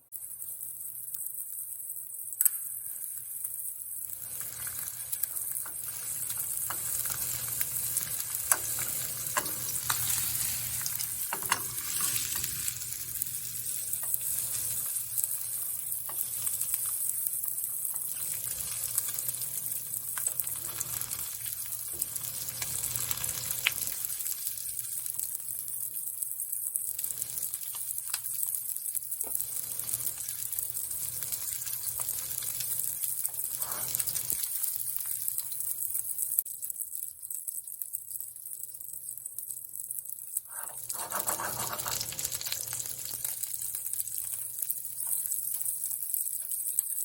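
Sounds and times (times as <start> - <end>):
chicken sizzling in a pan: 0.0 - 47.0.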